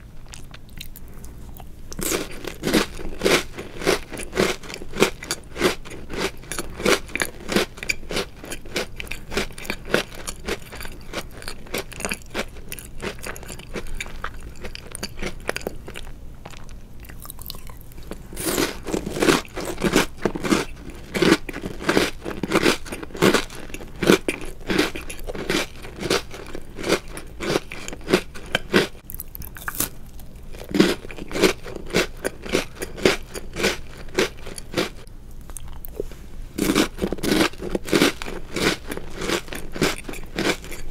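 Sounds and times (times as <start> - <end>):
cookies crunching when chewed: 0.2 - 36.0, 36.6 - 40.9.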